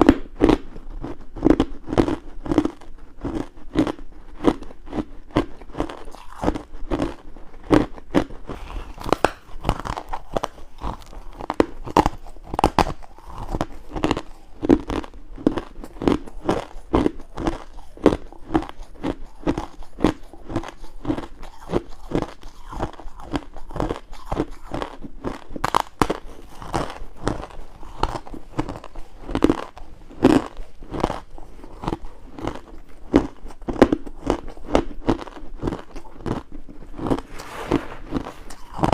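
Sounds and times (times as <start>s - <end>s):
ice being chewed: 0.0s - 37.4s, 38.0s - 38.9s.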